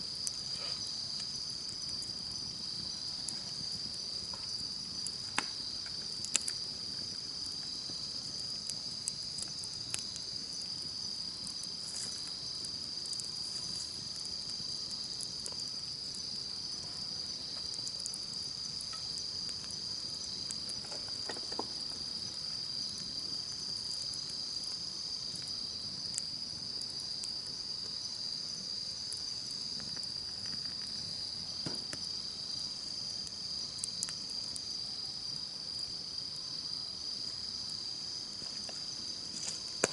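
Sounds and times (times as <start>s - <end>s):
campfire crackling: 0.0s - 39.9s
insects chirring: 0.0s - 39.9s.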